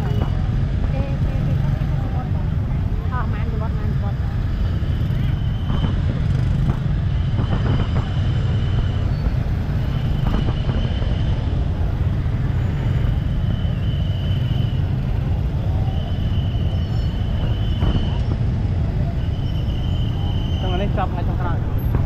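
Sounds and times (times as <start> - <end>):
motorbikes idling: 0.0 - 22.0.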